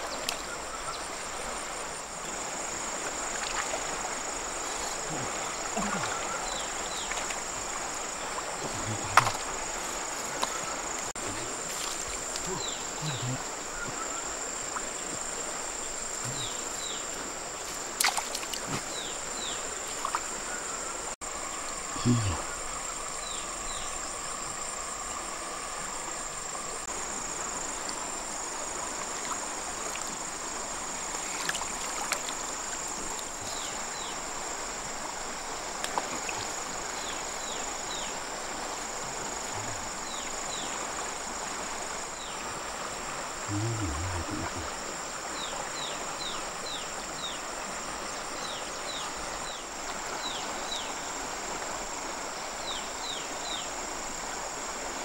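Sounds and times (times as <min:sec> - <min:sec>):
insects shrilling drone: 0:00.0 - 0:55.0.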